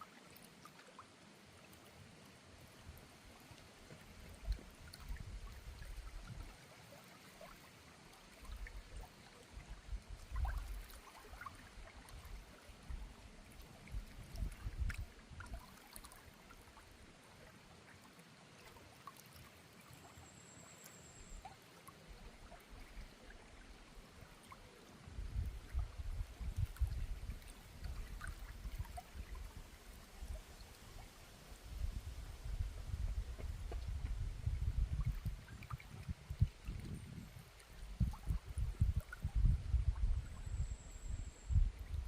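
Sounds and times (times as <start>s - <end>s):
faint river water flowing: 0.0s - 42.0s.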